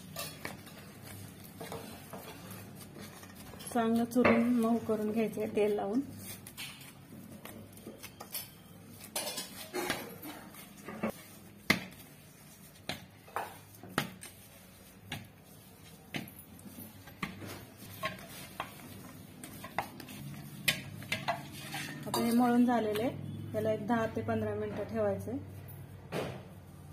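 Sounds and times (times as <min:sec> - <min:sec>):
dough kneading in metal bowl: 0:00.0 - 0:25.2.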